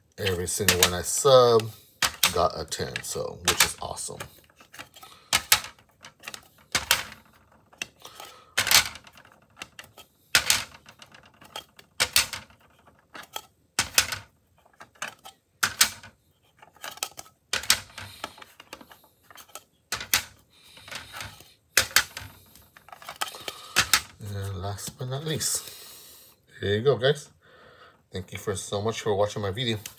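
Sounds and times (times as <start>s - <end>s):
hard plastic cases clacking: 0.0s - 25.0s.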